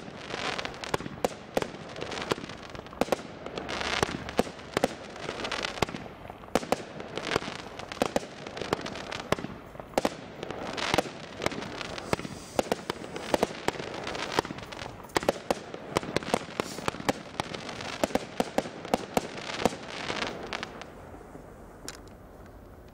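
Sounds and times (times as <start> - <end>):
fireworks shots bursting: 0.0 - 22.3
fireworks crackling hiss: 0.0 - 22.9.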